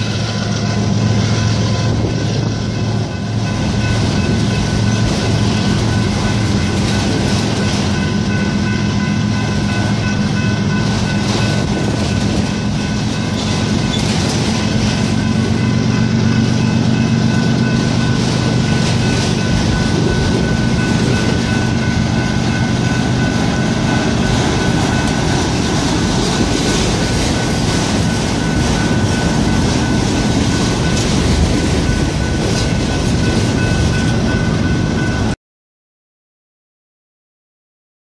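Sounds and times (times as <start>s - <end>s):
freight train rumbling past: 0.0s - 35.4s.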